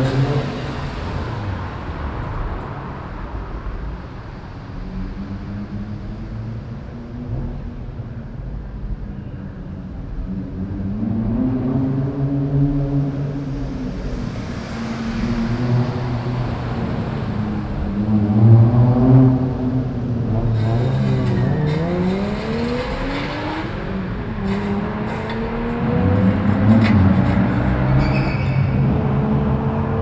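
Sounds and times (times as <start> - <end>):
car accelerating: 0.0 - 7.7, 10.4 - 30.0
car engines with loud exhausts: 0.0 - 30.0.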